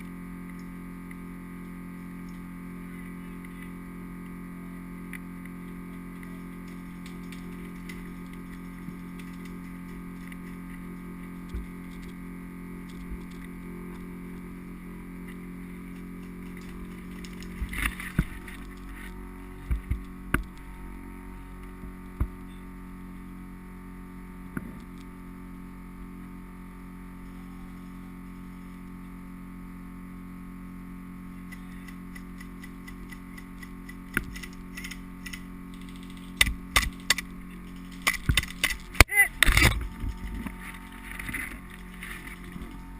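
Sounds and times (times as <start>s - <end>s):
muffled small fan motor humming: 0.0s - 42.9s.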